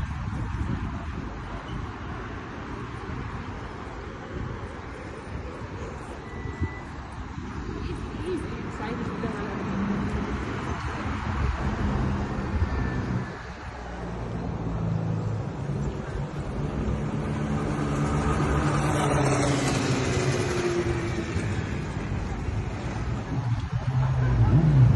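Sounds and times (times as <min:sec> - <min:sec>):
traffic noise: 0:00.0 - 0:24.9.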